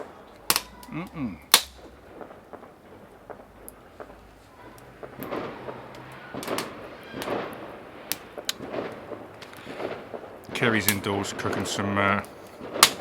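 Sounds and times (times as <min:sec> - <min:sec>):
firework bangs and cracks: 0:00.0 - 0:13.0.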